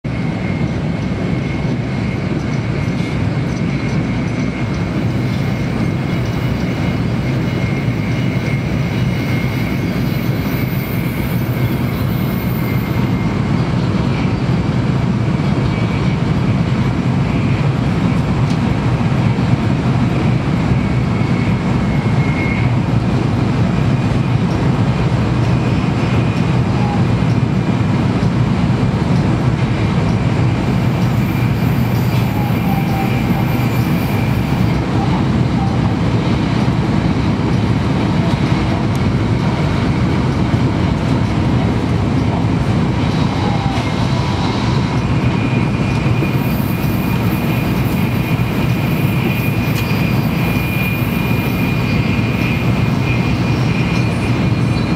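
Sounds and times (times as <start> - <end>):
train rumble inside carriage: 0.0 - 54.9.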